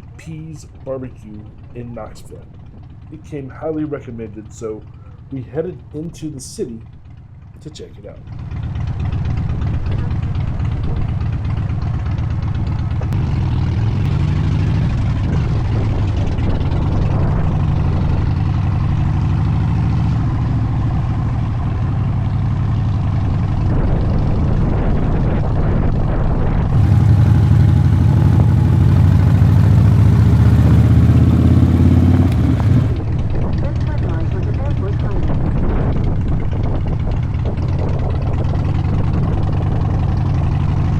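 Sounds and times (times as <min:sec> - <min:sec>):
motorcycle engine running: 0:01.4 - 0:06.1, 0:06.8 - 0:24.7, 0:26.6 - 0:40.9.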